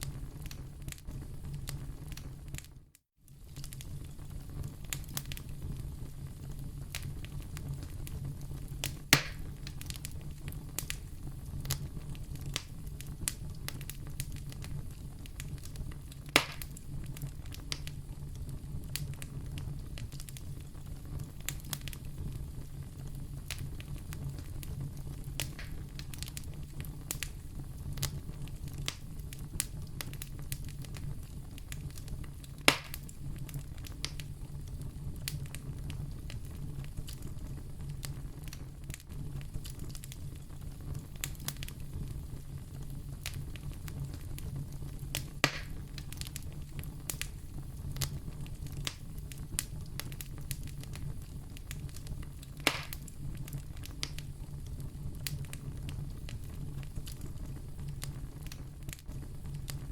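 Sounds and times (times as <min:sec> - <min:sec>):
fire crackling: 0:00.0 - 0:59.9
loud fire pops: 0:03.3 - 0:59.9.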